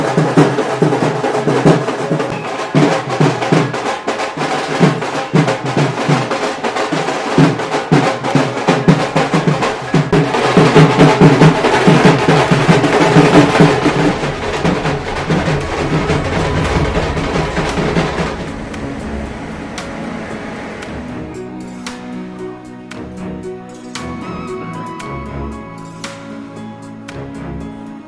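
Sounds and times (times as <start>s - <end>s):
drums in fast rhythm: 0.0s - 24.8s.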